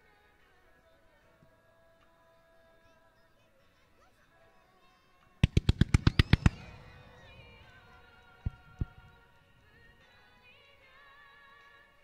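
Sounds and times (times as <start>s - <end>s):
faint music of held notes: 0.0s - 5.4s, 7.2s - 12.0s.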